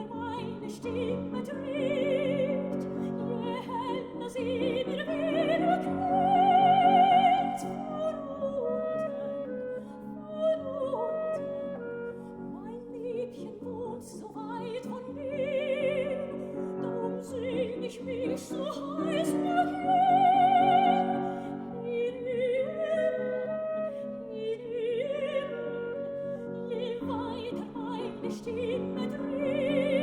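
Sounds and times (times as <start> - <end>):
soprano singing with vibrato: 0.0 - 30.0.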